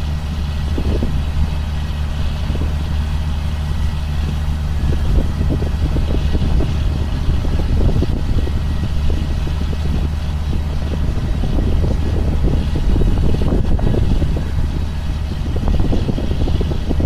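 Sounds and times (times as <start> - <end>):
sprayer engine humming: 0.0 - 17.0.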